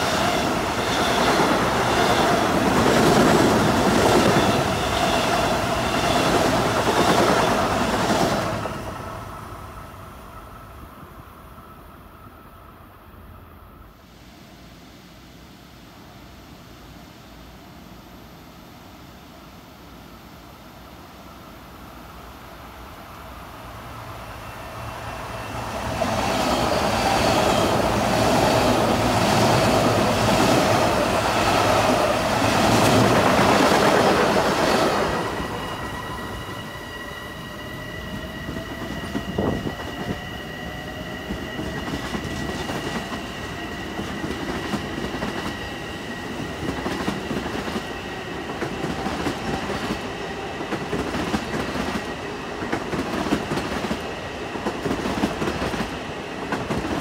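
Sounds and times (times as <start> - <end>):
train wheels rushing on rail: 0.0 - 12.3, 20.6 - 57.0
train high whine: 0.0 - 57.0.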